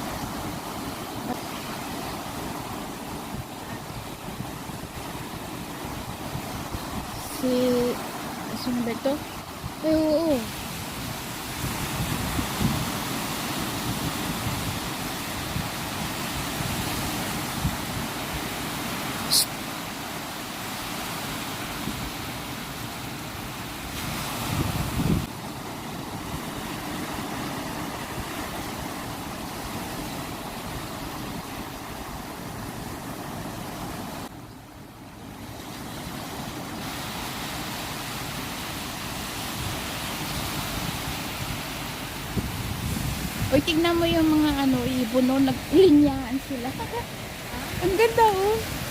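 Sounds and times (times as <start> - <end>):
ocean surf rushing: 0.0 - 48.9.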